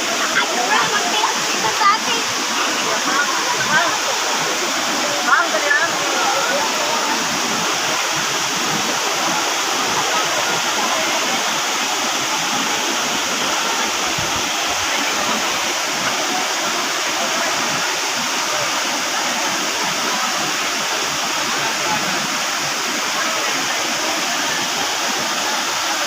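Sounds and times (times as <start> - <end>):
waterfall pouring into pool: 0.0 - 26.0.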